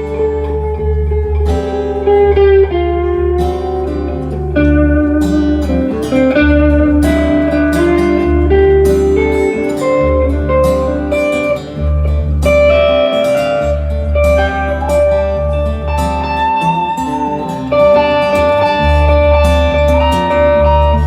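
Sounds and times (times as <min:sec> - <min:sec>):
bass notes: 0:00.0 - 0:16.8, 0:17.4 - 0:21.0
lead guitar melody: 0:00.0 - 0:21.0.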